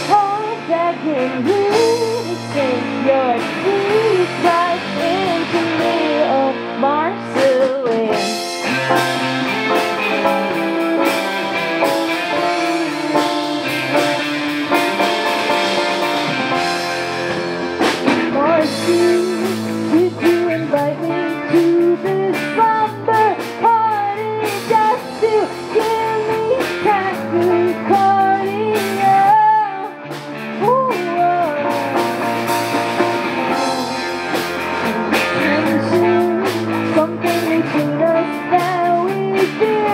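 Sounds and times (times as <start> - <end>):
woman singing: 0.0 - 8.6, 10.2 - 14.1, 18.2 - 39.9
electric guitar: 0.0 - 39.9.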